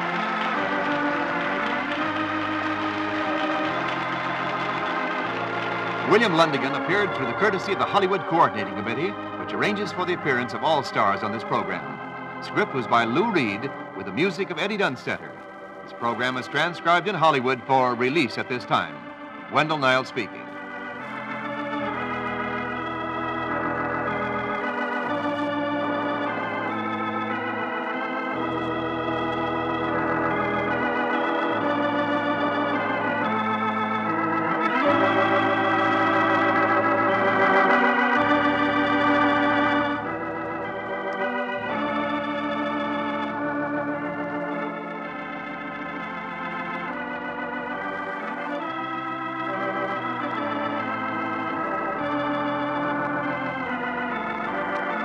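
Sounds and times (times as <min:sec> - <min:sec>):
organ chords with vibrato: 0:00.0 - 0:55.0.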